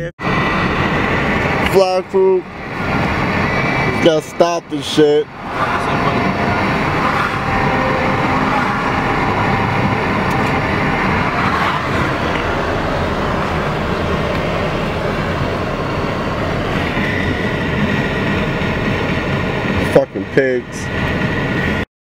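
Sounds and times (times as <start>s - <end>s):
car road and wind noise: 0.0s - 21.8s.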